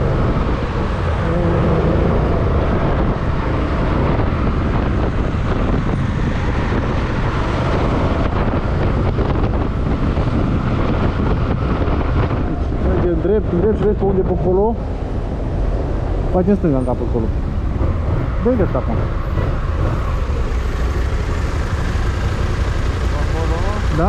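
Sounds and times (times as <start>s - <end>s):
wind rushing over microphone: 0.0s - 23.2s.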